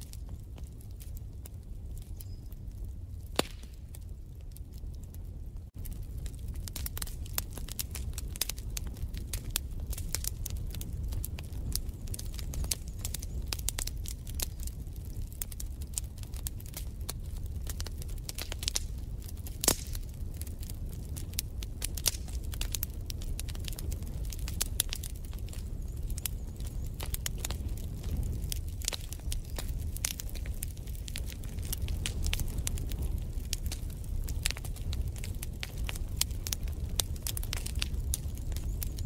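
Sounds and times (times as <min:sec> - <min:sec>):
low rumble of fire: 0:00.0 - 0:39.0
wood fire crackling: 0:00.0 - 0:39.0.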